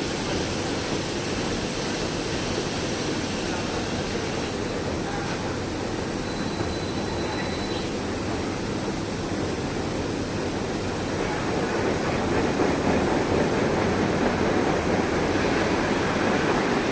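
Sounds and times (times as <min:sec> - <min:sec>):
washing machine running: 0:00.0 - 0:16.9.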